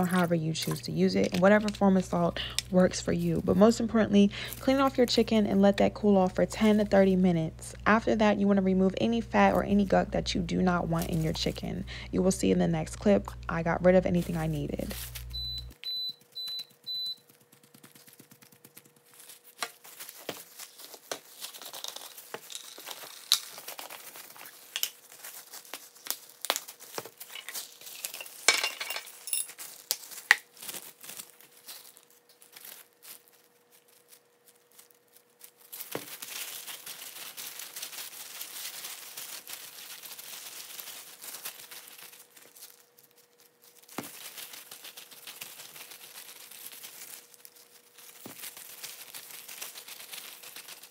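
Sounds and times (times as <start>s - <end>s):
faint steady hum: 0.0s - 50.9s
plastic gloves crinkling: 0.0s - 50.9s.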